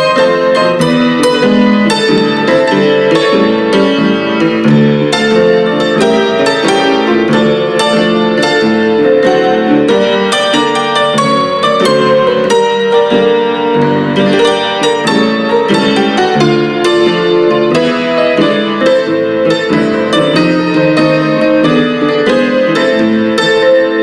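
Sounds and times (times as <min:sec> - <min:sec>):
honky-tonk piano music: 0:00.0 - 0:24.0.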